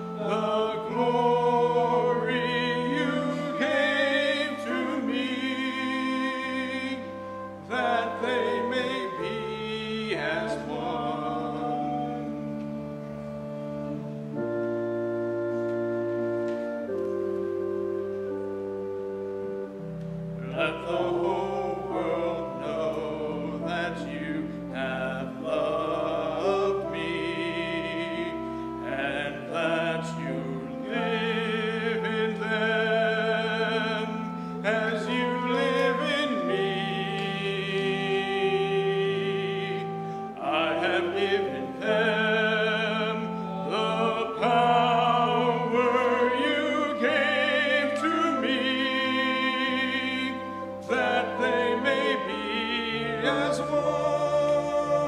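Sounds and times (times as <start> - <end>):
person singing with vibrato: 0.0 - 12.6, 20.4 - 55.0
keyboard chords: 0.0 - 55.0.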